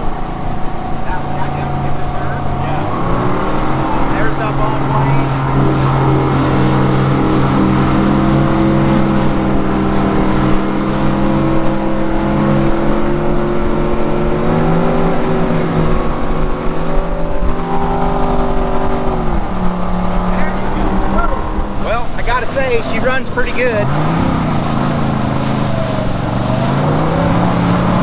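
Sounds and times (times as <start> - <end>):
boat engine running under load: 0.0 - 28.0
water and wind rushing: 0.0 - 28.0.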